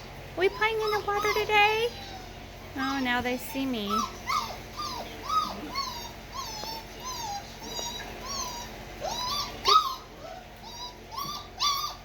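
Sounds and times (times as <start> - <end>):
puppies whining and yipping: 0.4 - 12.0.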